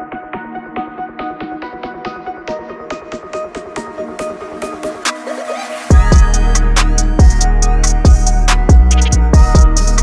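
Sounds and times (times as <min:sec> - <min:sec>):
electronic music with fast beat: 0:00.0 - 0:10.0.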